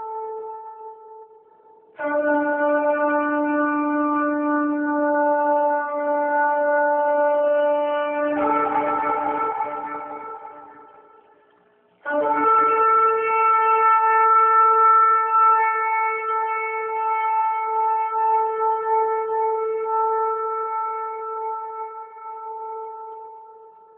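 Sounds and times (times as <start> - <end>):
horn long held note: 2.0 - 10.9, 12.0 - 23.7.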